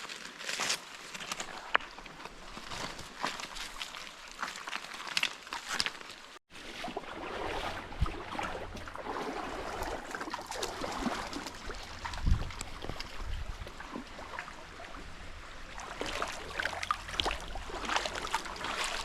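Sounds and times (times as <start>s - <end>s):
stream water over rocks: 3.3s - 19.0s.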